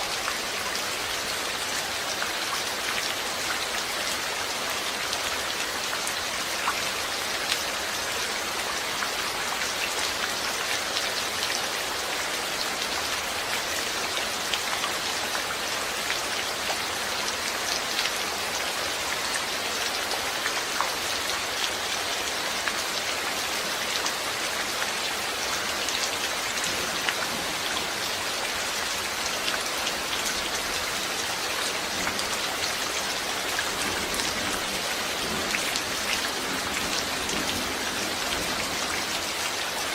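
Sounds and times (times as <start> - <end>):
rain drops ticking on a surface: 0.0 - 39.9
rain hiss: 0.0 - 39.9.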